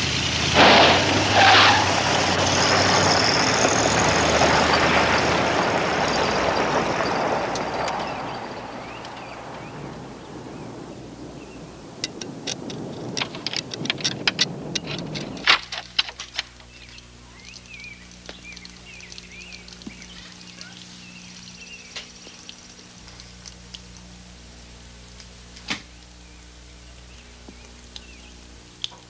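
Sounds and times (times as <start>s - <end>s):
birds chirping: 0.0s - 29.0s
car driving rumble: 0.0s - 29.0s
low steady hum: 0.0s - 29.0s.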